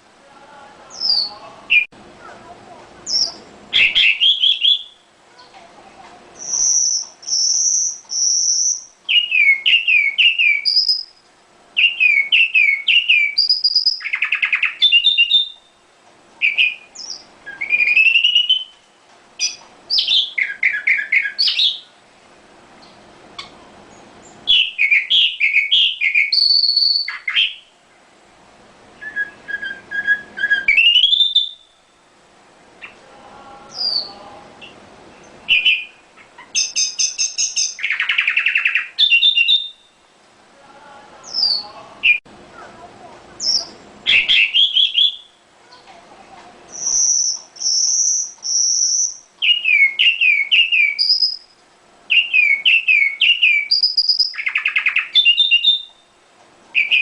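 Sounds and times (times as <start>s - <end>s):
small songbirds singing: 0.0s - 22.0s, 22.8s - 27.8s, 29.2s - 32.0s, 32.6s - 42.2s, 43.4s - 46.0s, 46.6s - 57.0s.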